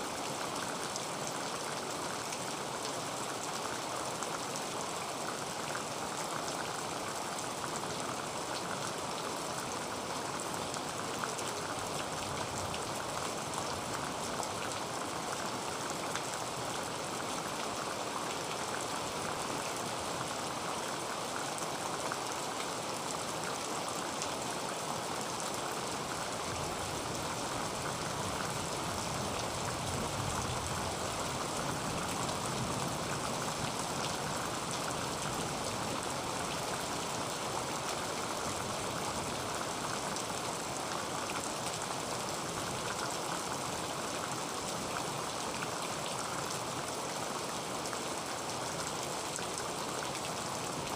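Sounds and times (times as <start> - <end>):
heavy rain on a tin roof: 0.0 - 50.9.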